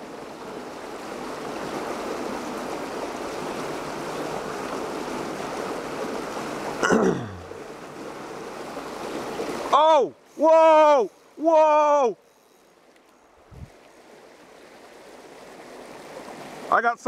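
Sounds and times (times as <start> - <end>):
water rushing through gutter: 0.0 - 12.2, 13.7 - 17.0.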